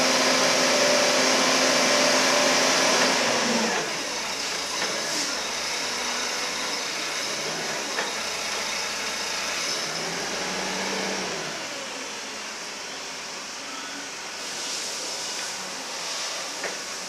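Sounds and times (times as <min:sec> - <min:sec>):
forklift engine running: 0:00.0 - 0:14.4.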